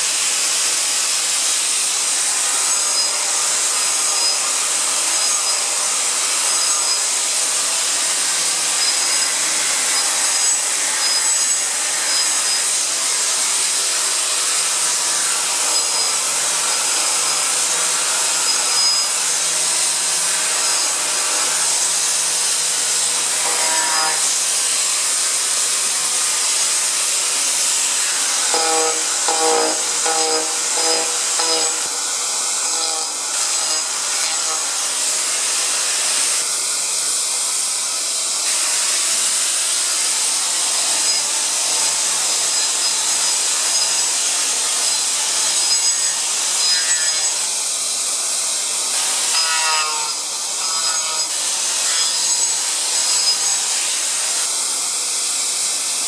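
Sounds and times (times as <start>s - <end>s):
power tool grinding wood floor: 0.0s - 56.0s.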